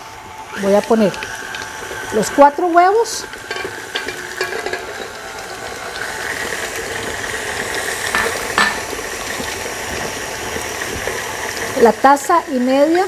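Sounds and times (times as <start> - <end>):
electric stand mixer running: 0.0 - 13.0.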